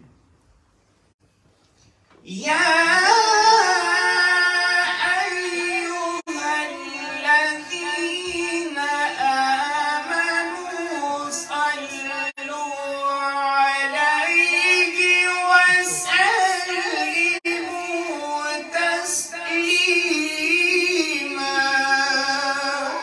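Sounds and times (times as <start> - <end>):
man chanting into a microphone: 2.2 - 23.0.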